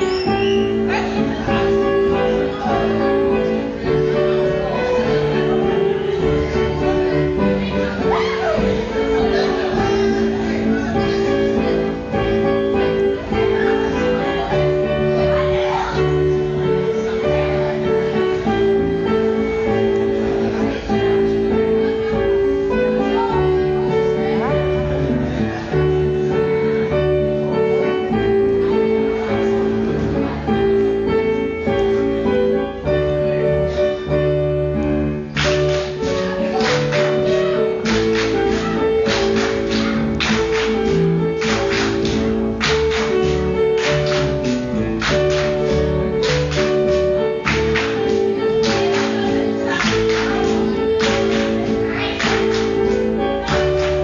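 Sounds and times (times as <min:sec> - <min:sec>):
folk dance music: 0:00.0 - 0:54.0.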